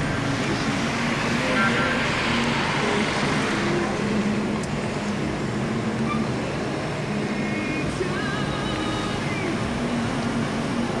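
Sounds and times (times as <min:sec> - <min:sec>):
cars driving on city street: 0:00.0 - 0:11.0.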